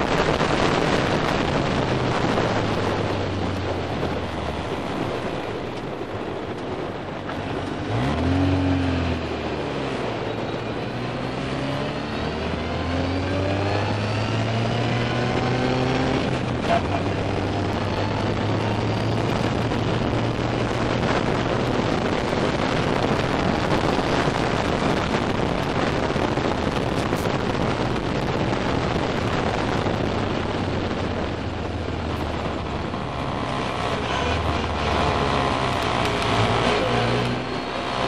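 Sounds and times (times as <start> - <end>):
race car engine from cockpit: 0.0 - 38.0
wind and road noise: 0.0 - 38.0.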